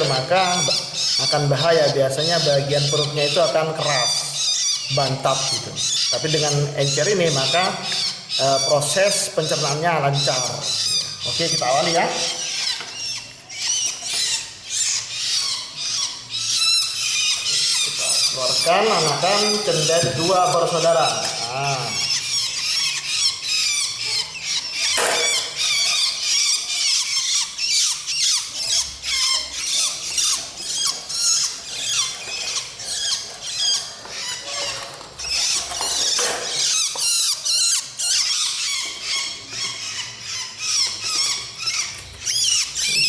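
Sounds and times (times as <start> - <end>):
nestlings squealing begging calls: 0.0 - 43.0.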